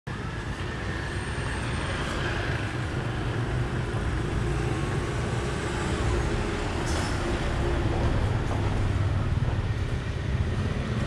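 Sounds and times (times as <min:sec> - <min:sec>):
motorbike traffic rumble: 0:00.1 - 0:11.0.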